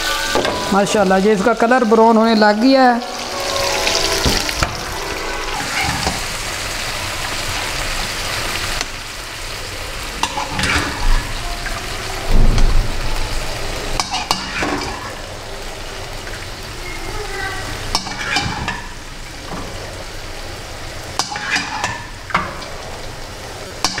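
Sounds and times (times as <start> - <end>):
food sizzling in frying pan: 0.0 - 24.0.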